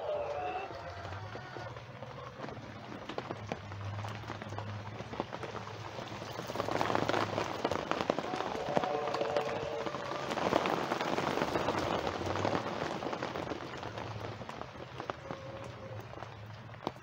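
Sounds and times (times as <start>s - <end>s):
rain drops pattering: 0.0s - 17.0s.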